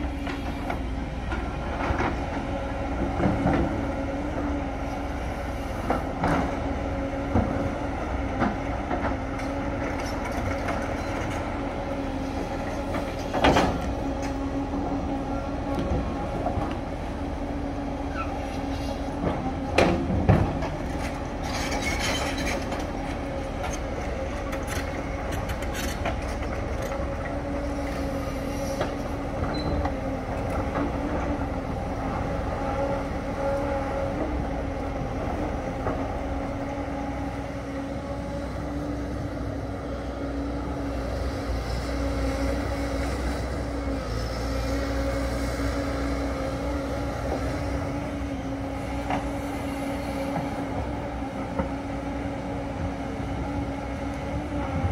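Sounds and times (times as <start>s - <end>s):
excavator engines rumbling: 0.0s - 54.9s.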